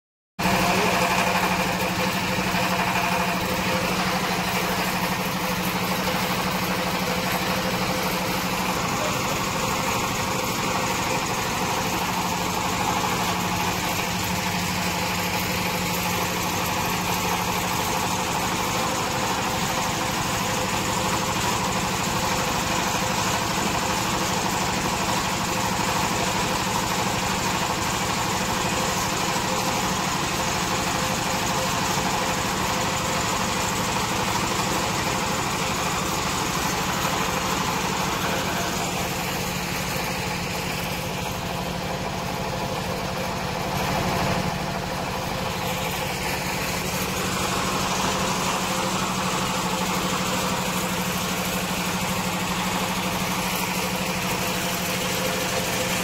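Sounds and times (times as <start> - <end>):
machine mechanical drone: 0.4 - 56.0.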